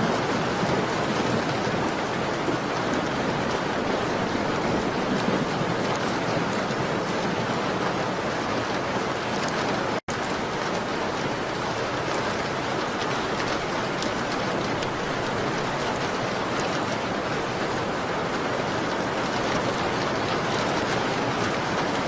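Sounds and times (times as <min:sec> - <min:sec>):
rain on window glass: 0:00.0 - 0:22.0.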